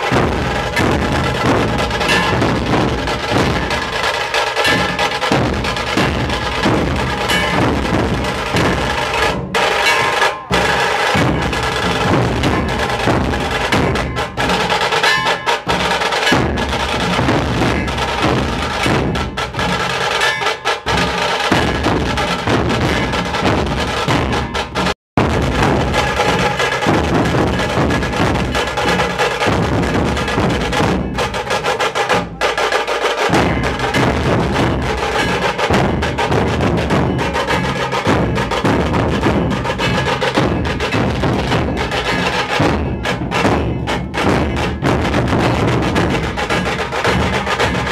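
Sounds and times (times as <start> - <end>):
dhol drums beating: 0.0 - 47.9.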